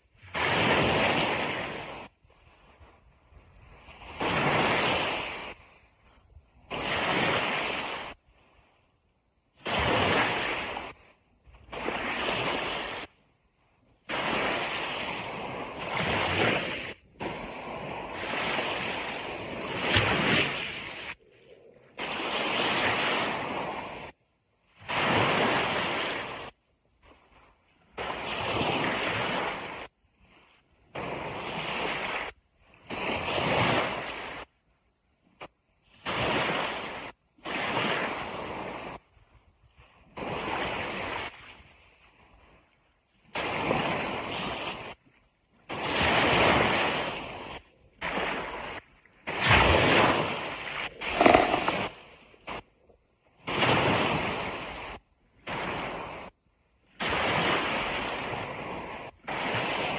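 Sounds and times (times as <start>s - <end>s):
sea waves washing on beach: 0.0s - 8.9s, 9.5s - 34.6s, 35.4s - 59.9s.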